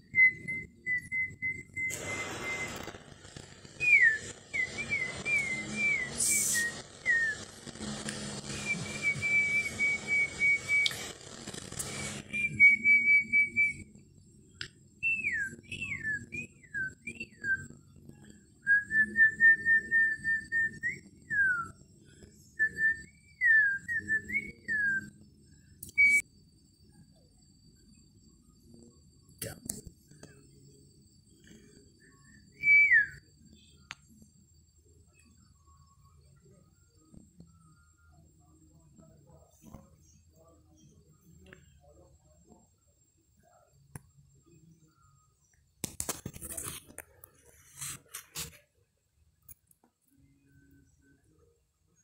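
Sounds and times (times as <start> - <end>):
steady hiss: 0.0 - 49.6.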